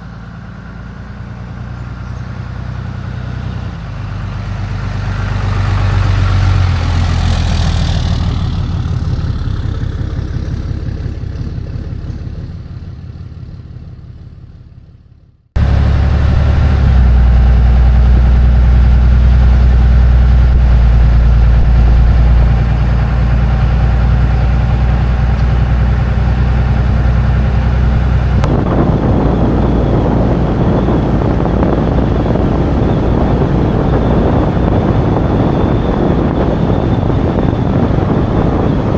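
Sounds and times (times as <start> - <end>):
truck engine and road rumble: 0.0 - 38.9.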